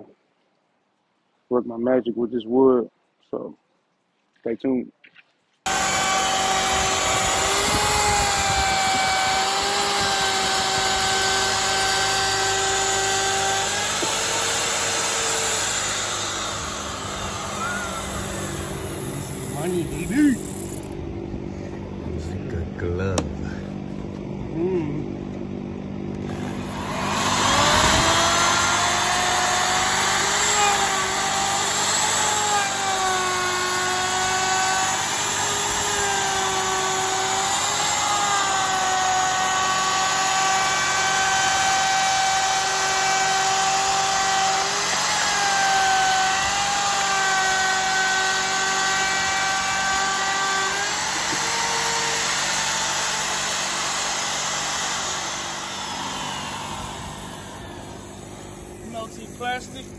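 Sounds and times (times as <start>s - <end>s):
router whining: 5.7s - 22.3s, 26.1s - 59.9s.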